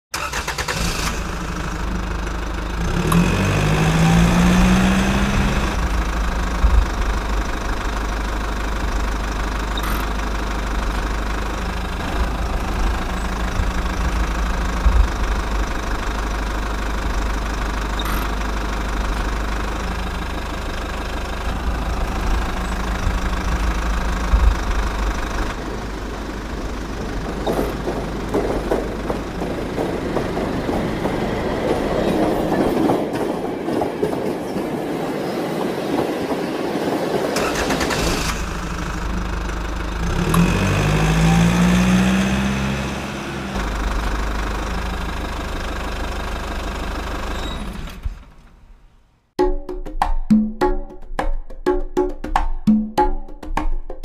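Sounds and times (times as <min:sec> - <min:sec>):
engine idling with knocking: 0:00.1 - 0:34.1, 0:37.4 - 0:48.7.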